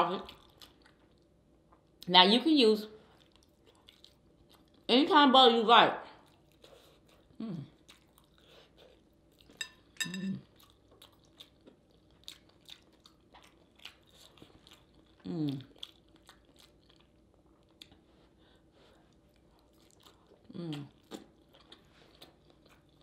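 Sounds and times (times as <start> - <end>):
person chewing and lip-smacking: 0.1 - 2.0, 3.0 - 4.9, 6.2 - 23.0.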